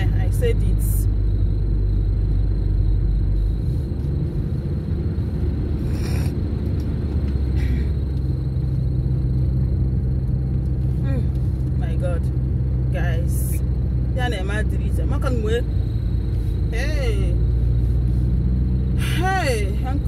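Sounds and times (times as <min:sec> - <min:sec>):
car cabin engine and tyre rumble: 0:00.0 - 0:20.0.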